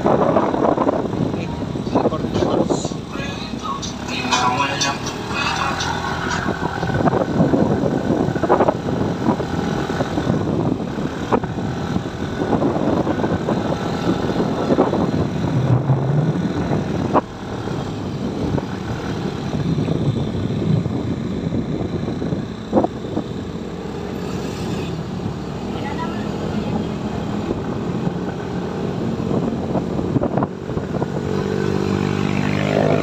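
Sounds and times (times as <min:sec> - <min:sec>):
vehicle engine running: 0:00.0 - 0:31.2
wind and road noise: 0:00.0 - 0:33.0.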